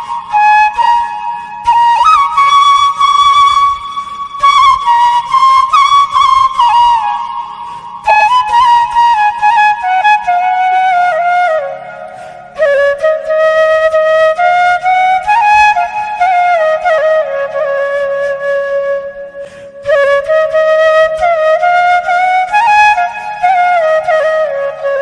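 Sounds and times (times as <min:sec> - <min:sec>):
slow flute melody: 0:00.0 - 0:25.0.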